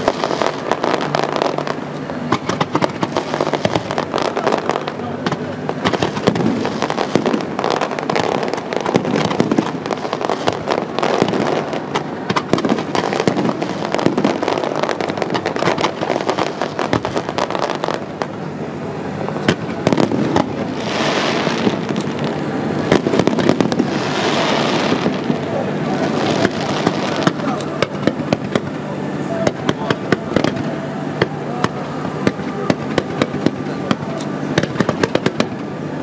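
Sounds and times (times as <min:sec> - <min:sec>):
fireworks bangs and crackles: 0:00.0 - 0:36.0
fireworks hiss: 0:00.0 - 0:36.0.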